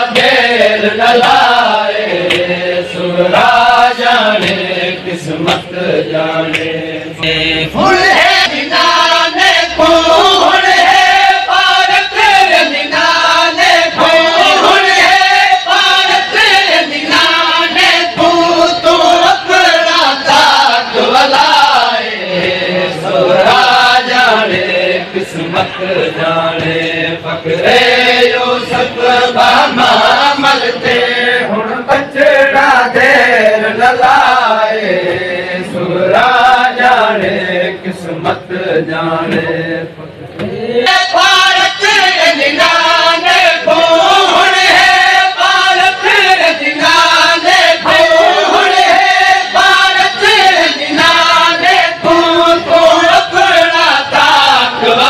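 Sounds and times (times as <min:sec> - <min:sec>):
man reciting lament: 0:00.0 - 0:55.0
men chanting in unison: 0:00.0 - 0:55.0.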